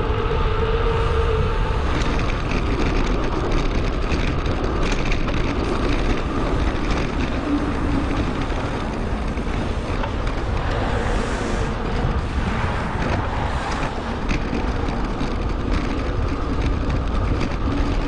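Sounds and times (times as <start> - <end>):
bicycle road noise: 0.0 - 18.0
wind rush: 0.0 - 18.0.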